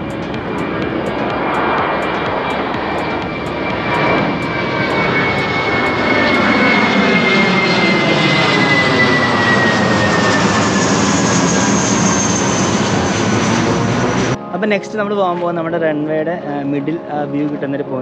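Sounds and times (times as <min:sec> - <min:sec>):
jet airliner engine roar: 0:00.0 - 0:14.4
high engine whine gliding down: 0:00.0 - 0:14.8.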